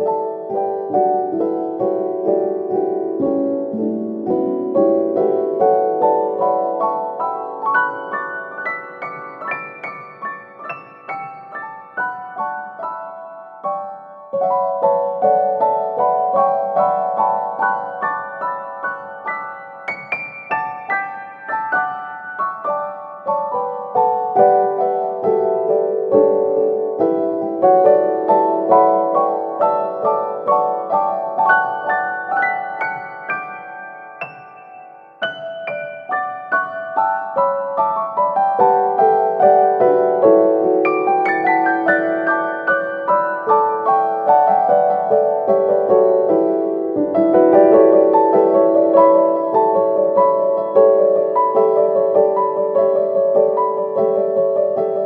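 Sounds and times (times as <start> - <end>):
slow gentle piano melody: 0.0 - 55.0.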